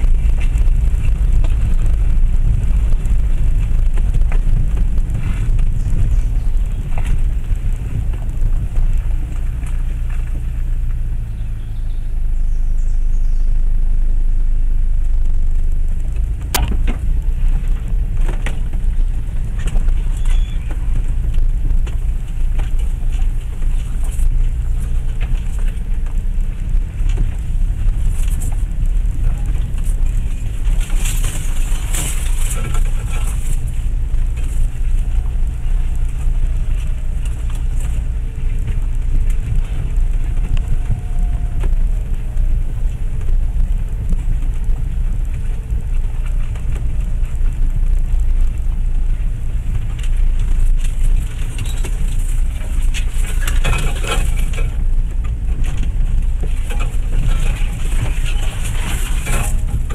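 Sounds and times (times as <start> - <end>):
knocks and rattles over bumps: 0.0 - 12.3, 13.6 - 59.9
engine and road rumble: 0.0 - 59.9.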